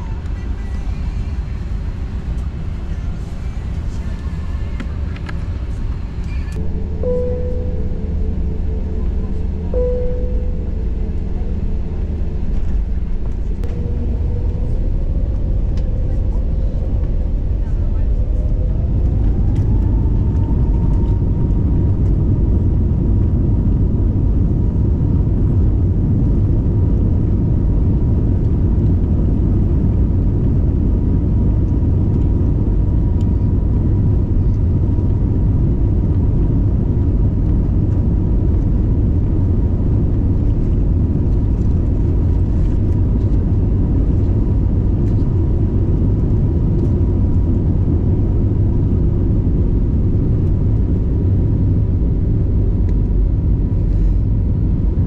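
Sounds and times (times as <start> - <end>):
jet engine whine: 0.0 - 55.0
loud engine rumble: 0.0 - 55.0.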